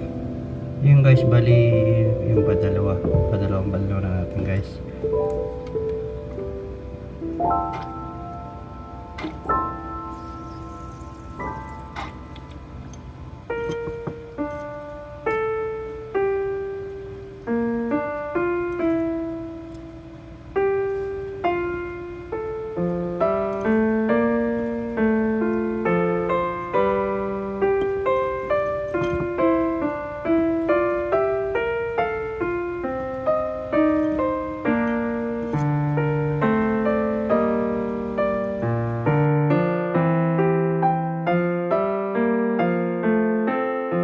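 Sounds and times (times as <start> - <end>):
calm piano melody: 0.0 - 44.0.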